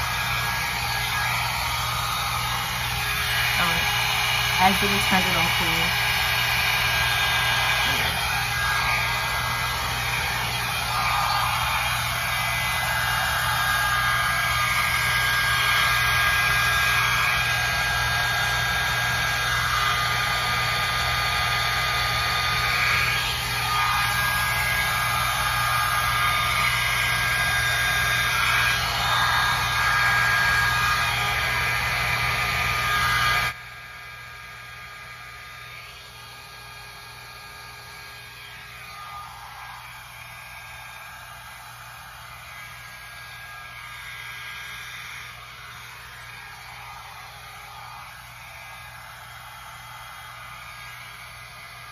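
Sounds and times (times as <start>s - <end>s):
hot air brush running: 0.0s - 51.9s.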